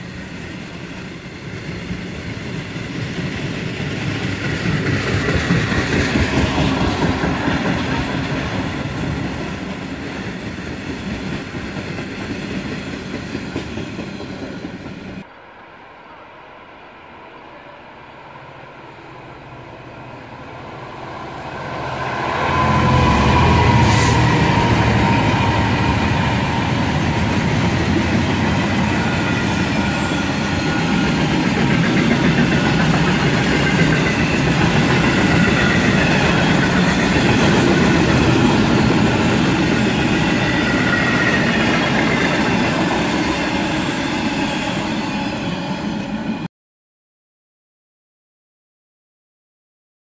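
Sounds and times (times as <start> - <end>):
diesel locomotive engine passing: 0.0 - 46.5
wheels rumbling on rail: 0.0 - 46.5.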